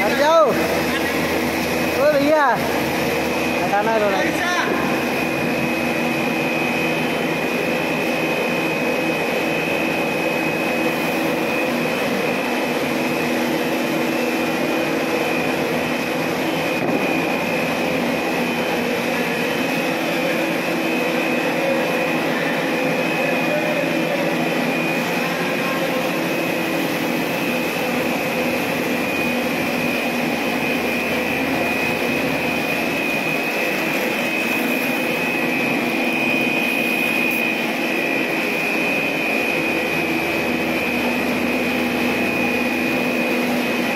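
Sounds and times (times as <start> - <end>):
high whine: 0.0 - 43.9
machine drone: 0.0 - 43.9.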